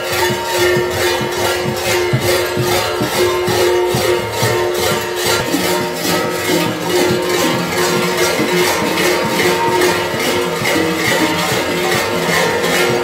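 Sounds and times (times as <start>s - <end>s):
large bells clanging and jangling: 0.0s - 13.0s.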